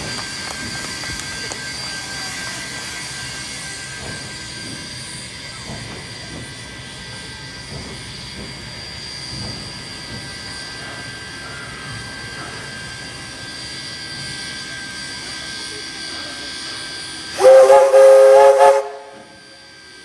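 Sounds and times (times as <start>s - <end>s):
steam locomotive hissing steam: 0.0s - 20.0s.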